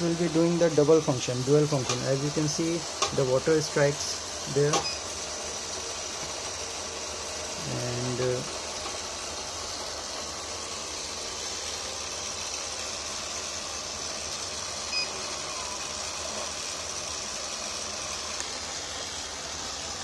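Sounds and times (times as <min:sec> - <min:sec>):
robot vacuum cleaner whirring: 0:00.0 - 0:20.0.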